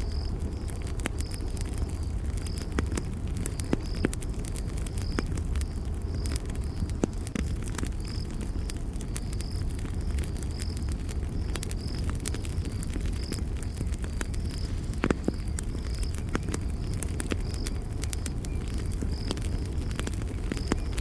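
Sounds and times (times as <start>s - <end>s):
high insect chirp: 0.0s - 7.0s, 7.7s - 21.0s
campfire crackling and popping: 0.0s - 21.0s.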